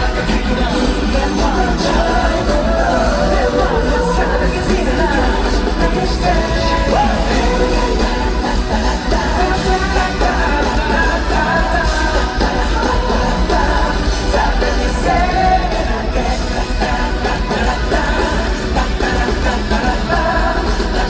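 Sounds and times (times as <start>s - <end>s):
heavy bass: 0.0s - 21.0s
person singing: 0.0s - 21.0s
pop song over loud pa: 0.0s - 21.0s.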